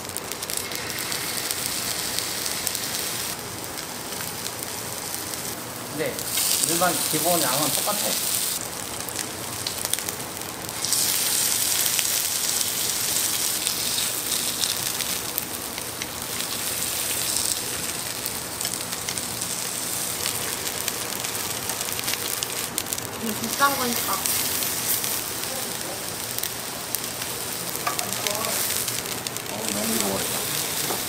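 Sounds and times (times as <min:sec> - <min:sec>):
meat sizzling on a grill: 0:00.0 - 0:31.0.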